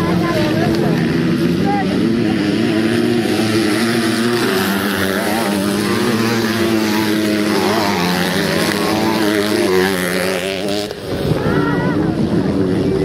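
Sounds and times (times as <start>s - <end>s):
motocross bikes racing: 0.0s - 13.0s.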